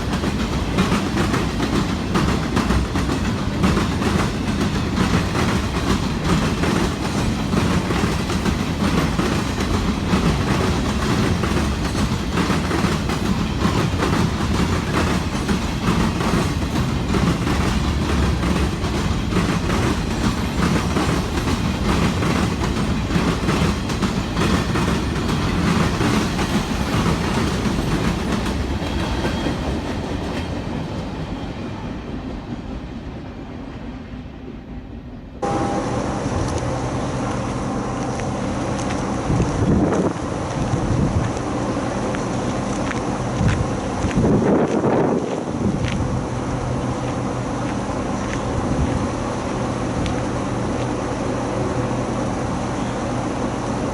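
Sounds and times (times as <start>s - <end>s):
train wheels clickety-clack: 0.0s - 33.9s, 36.4s - 51.2s.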